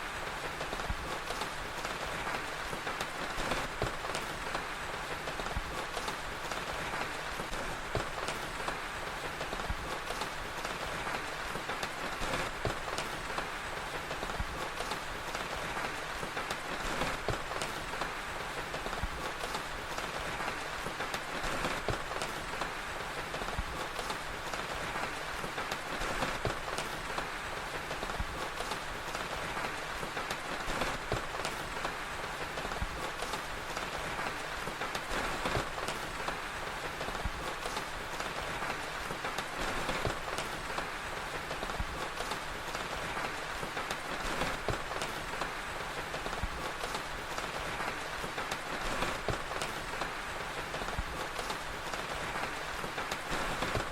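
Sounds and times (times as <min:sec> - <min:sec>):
fire crackling: 0:00.0 - 0:53.9
steady rain: 0:00.0 - 0:53.9.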